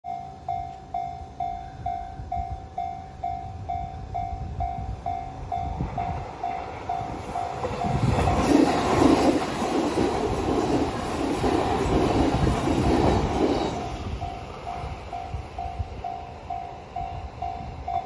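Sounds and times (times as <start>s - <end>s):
electric train rumbling: 0.1s - 18.0s.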